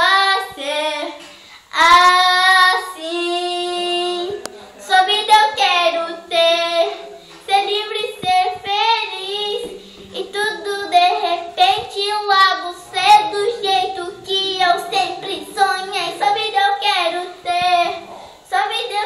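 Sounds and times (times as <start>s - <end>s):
girl singing pop song: 0.0s - 19.0s.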